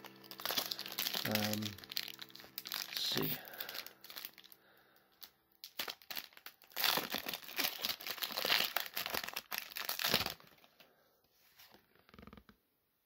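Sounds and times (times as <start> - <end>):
foil wrapper tearing and crinkling: 0.0 - 10.9.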